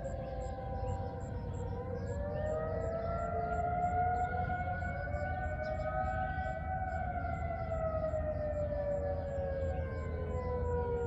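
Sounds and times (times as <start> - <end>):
distant warning sirens: 0.0 - 11.0.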